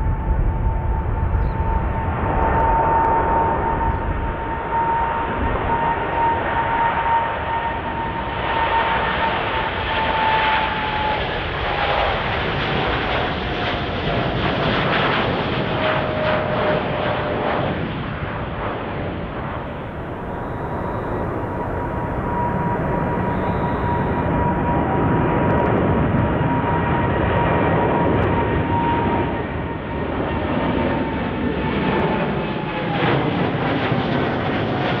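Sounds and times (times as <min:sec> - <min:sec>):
jet airliner engines roaring: 0:00.0 - 0:35.0.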